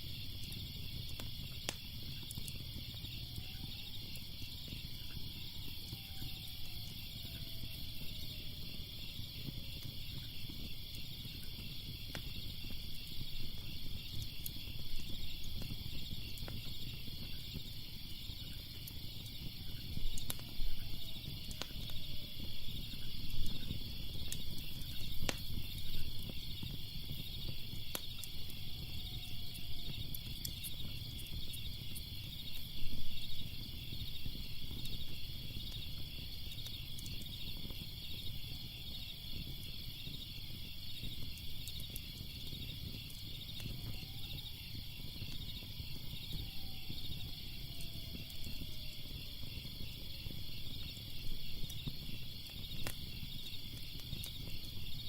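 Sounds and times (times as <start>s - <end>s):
crickets chirping: 0.0s - 55.0s
wood fire crackling and popping: 0.0s - 55.0s.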